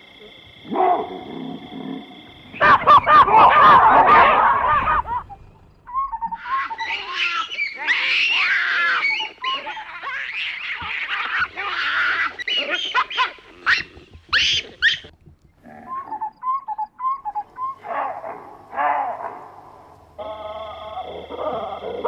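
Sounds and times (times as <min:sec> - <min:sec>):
baboons barking: 0:00.6 - 0:22.0
baboons screaming: 0:00.7 - 0:22.0.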